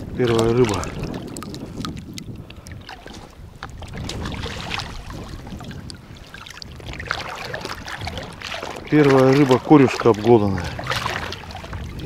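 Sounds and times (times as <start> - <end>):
seawater splashing and dripping: 0.0 - 12.0
small sharp splashes: 0.0 - 12.0.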